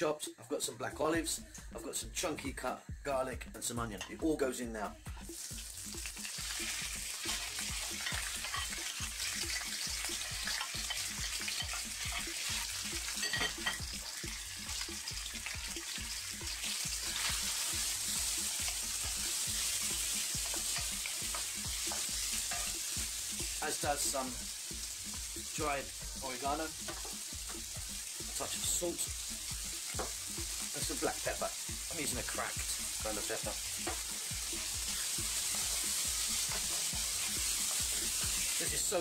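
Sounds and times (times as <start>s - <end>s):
food sizzling in oil: 4.0s - 39.0s.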